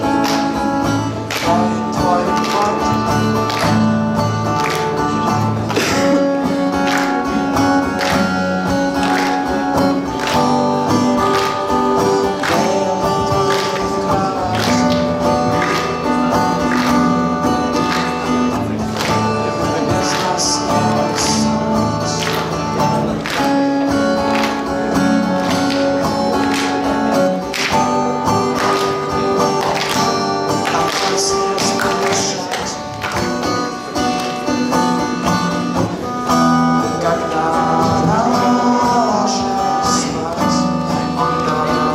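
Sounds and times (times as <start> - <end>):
man singing: 0.0 - 41.9
strummed acoustic guitar: 0.0 - 41.9.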